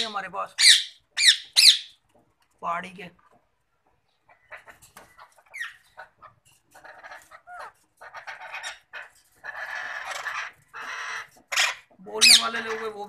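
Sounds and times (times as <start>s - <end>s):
harsh rasping squawks: 0.0s - 2.0s, 4.3s - 13.0s
parakeets chirping and squawking: 0.0s - 2.0s, 4.2s - 13.0s.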